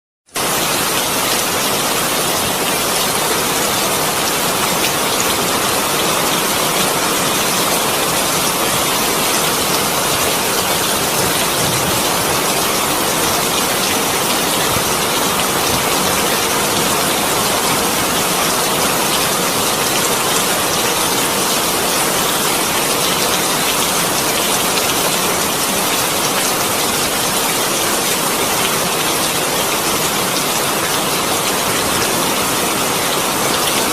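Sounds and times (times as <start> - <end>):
rushing water: 0.3 - 33.9.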